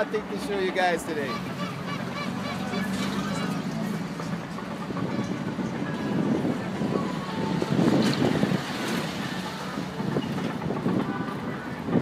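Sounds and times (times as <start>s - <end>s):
cars and trucks passing: 0.0s - 12.0s.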